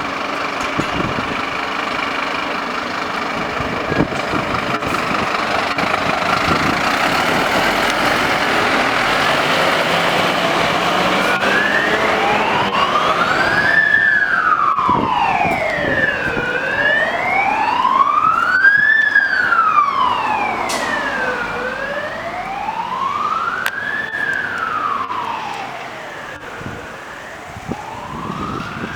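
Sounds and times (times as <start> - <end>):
engine and road noise: 0.0 - 28.9
siren wailing: 2.2 - 28.9.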